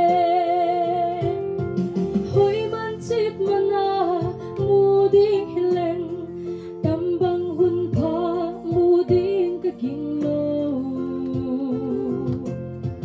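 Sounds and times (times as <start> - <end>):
woman singing with vibrato: 0.0 - 1.4, 2.3 - 12.5
instrumental accompaniment: 0.0 - 13.0.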